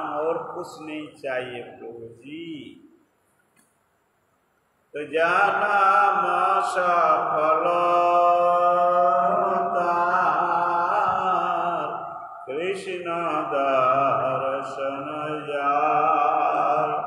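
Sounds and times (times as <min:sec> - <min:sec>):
man chanting: 0:00.0 - 0:02.9, 0:05.0 - 0:17.0.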